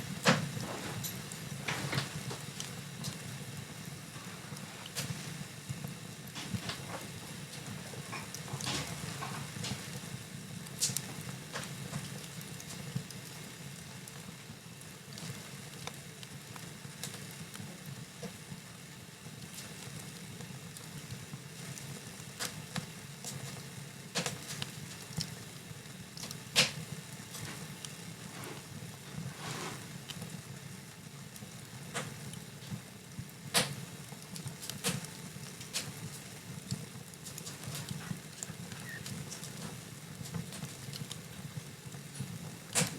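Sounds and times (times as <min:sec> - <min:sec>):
fire crackling and popping: 0:00.0 - 0:42.9.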